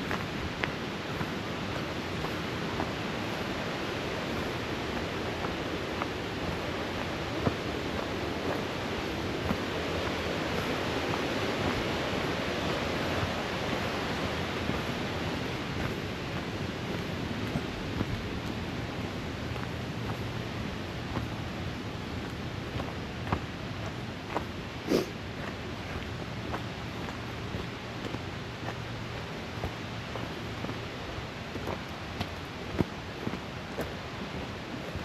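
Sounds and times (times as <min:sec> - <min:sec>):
water rushing over rocks: 0:00.0 - 0:35.0.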